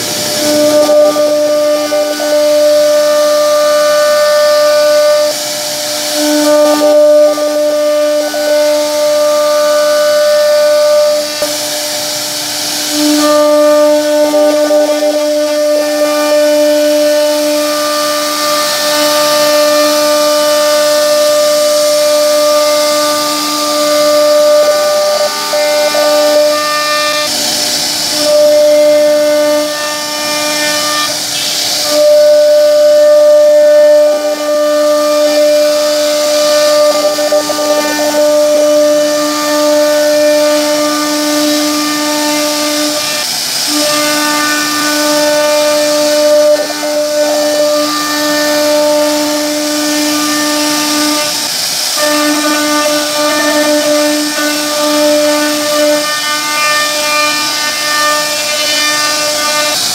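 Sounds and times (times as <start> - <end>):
bit cutting wood hissing: 0.0 - 59.9
router spindle whine: 0.0 - 59.9.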